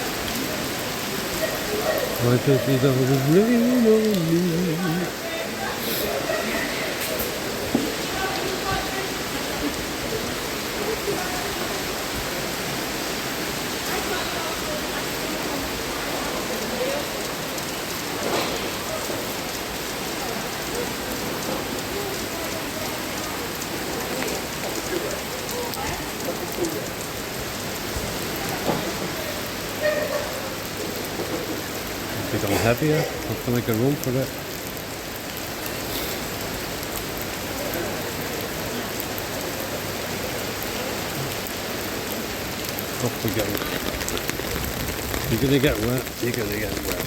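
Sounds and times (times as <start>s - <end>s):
heavy rain pouring: 0.0s - 47.0s
raindrops ticking close by: 0.0s - 47.0s.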